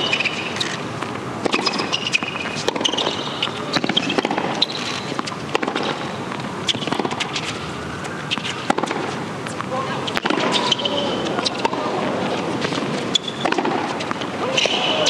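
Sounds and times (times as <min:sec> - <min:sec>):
racket striking tennis ball: 0:00.0 - 0:15.0
shoes squeaking on court: 0:00.0 - 0:15.0
tennis ball bouncing: 0:00.0 - 0:15.0.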